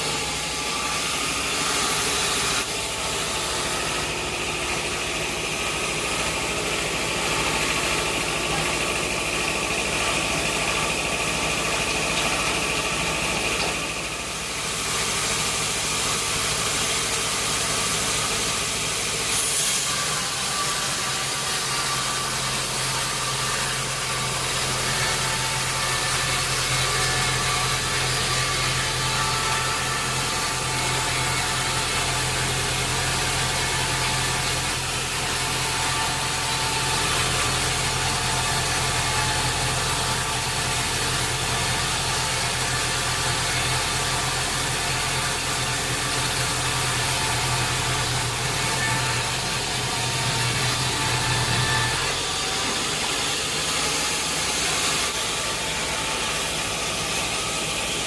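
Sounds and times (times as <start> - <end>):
sawmill machinery humming: 0.0 - 58.0.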